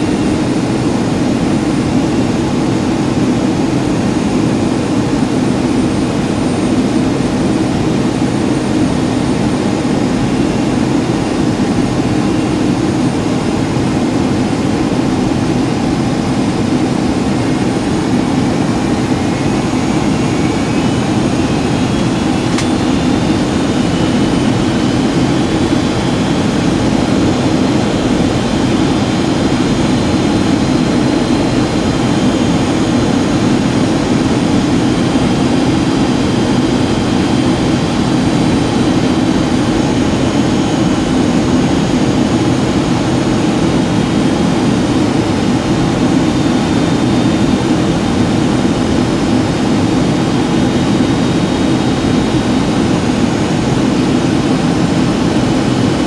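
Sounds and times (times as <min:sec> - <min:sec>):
airliner cabin engine rush: 0:00.0 - 0:56.0.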